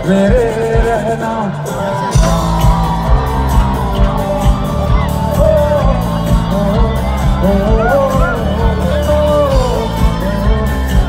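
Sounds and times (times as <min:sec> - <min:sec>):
live band playing: 0:00.0 - 0:11.0
man singing: 0:00.0 - 0:11.0
crowd whooping: 0:01.4 - 0:11.0.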